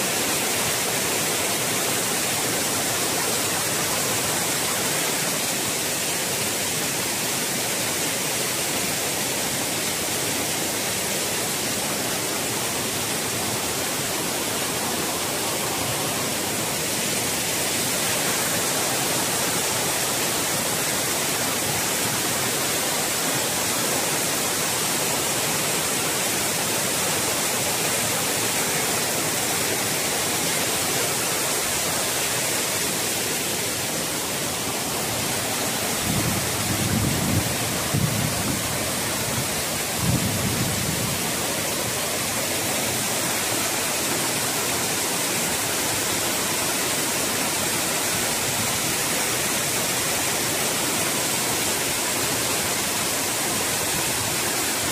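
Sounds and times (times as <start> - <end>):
stream over boulders: 0.0 - 54.9
waterfall rushing into pool: 0.0 - 54.9.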